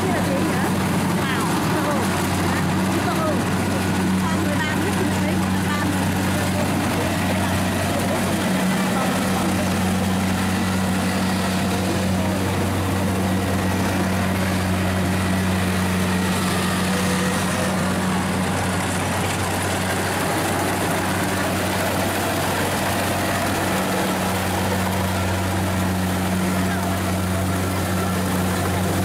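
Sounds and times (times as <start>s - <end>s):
combine harvester mechanical noise: 0.0s - 29.0s
diesel engine humming: 0.0s - 29.0s.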